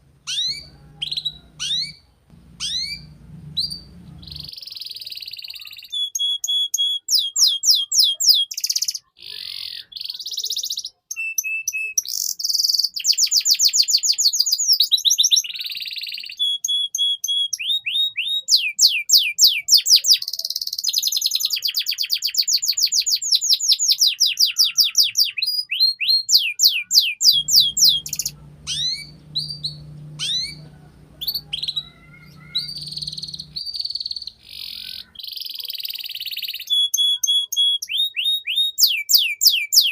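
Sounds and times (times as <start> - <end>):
canary singing trills: 0.1 - 39.9.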